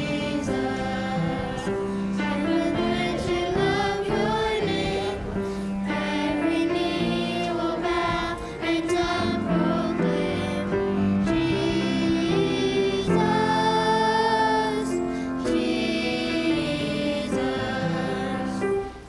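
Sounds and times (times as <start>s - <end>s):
voices singing: 0.0s - 19.0s.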